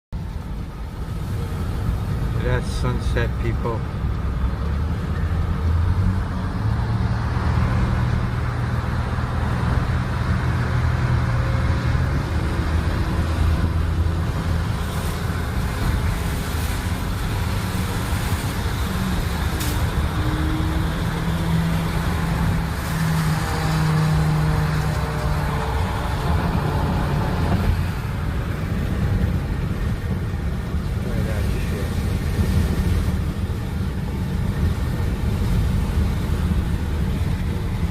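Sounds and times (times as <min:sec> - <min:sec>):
road noise: 0:00.1 - 0:37.9.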